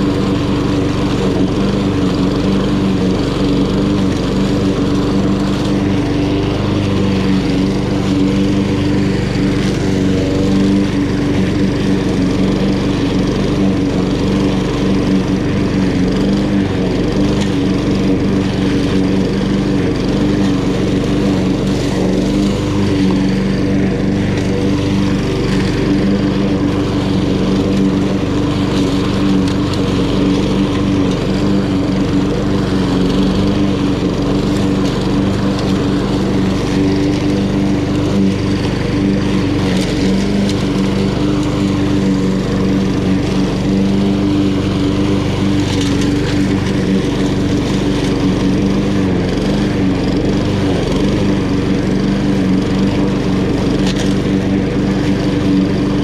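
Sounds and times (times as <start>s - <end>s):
lawn mower cutting grass: 0.0s - 56.0s.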